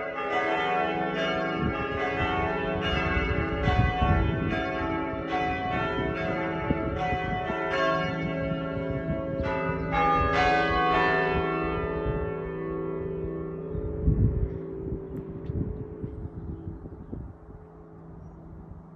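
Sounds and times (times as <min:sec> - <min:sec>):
church bells ringing: 0:00.0 - 0:18.2.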